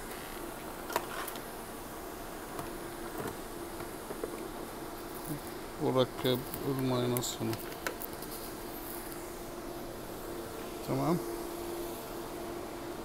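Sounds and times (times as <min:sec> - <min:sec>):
faint electrical buzz: 0:00.0 - 0:13.0.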